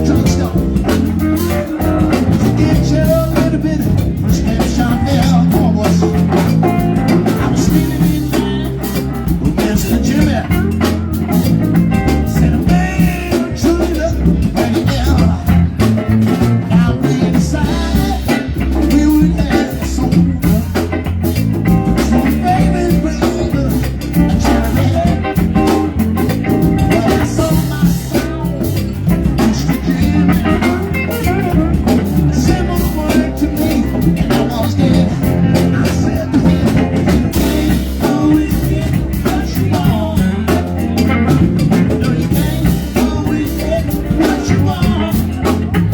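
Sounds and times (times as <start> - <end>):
bass: 0.0 - 45.9
drum kit: 0.0 - 45.9
electric guitar: 0.0 - 45.9.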